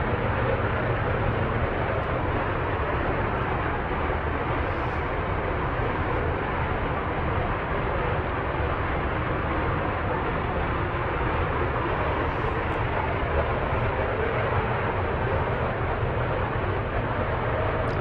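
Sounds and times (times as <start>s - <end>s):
power plant rushing rumble: 0.0s - 18.0s.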